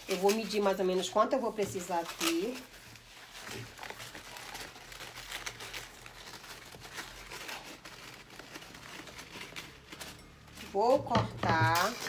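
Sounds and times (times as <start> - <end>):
crepe paper crinkling: 0.0 - 12.0.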